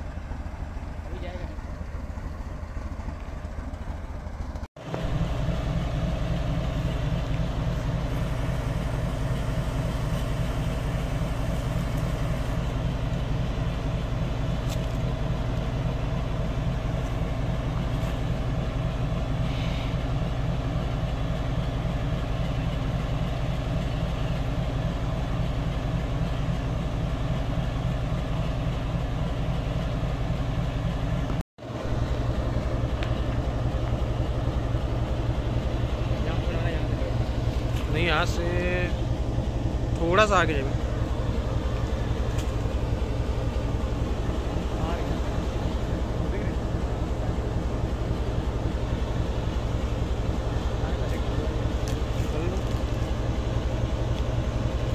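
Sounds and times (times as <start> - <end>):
locomotive engine idling: 0.0 - 54.9.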